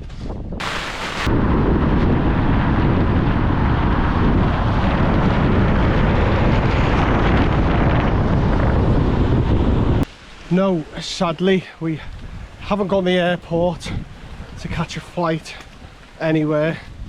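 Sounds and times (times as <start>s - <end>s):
strong wind buffeting microphone: 0.0s - 10.1s, 11.8s - 17.0s.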